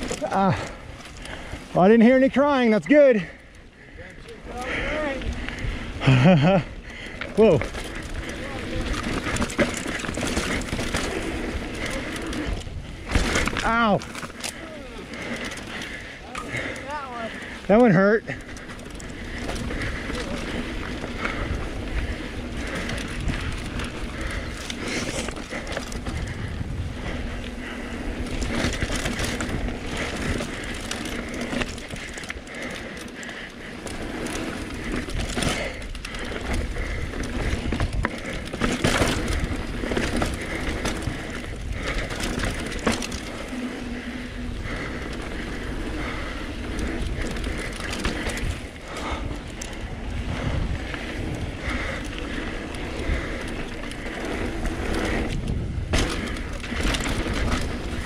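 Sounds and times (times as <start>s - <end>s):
bike clattering over bumps: 0.0s - 58.0s
bike tyre noise: 0.0s - 58.0s.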